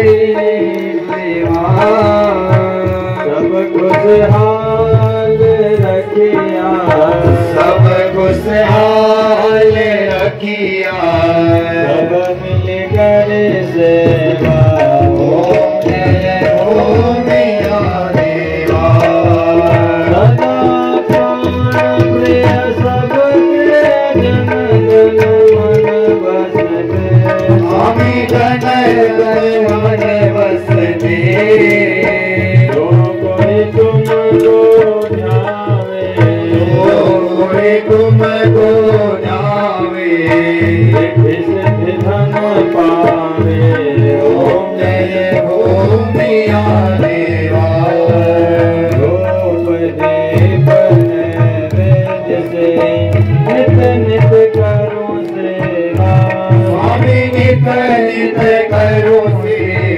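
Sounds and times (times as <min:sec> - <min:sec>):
devotional singing with melody: 0:00.0 - 0:59.9
tabla beat: 0:00.0 - 0:59.9.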